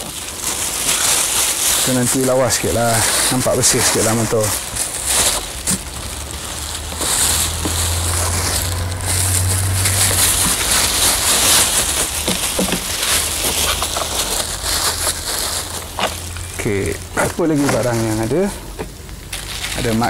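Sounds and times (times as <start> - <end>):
low steady hum: 0.0 - 20.0
plastic bags crinkling: 0.0 - 20.0.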